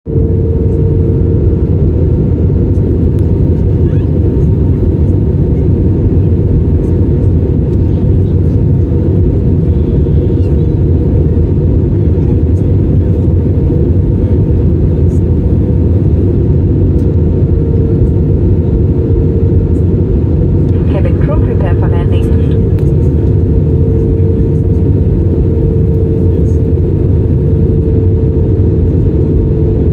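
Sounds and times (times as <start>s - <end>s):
airliner cabin rumble: 0.1s - 29.9s
faint hum: 0.1s - 29.9s.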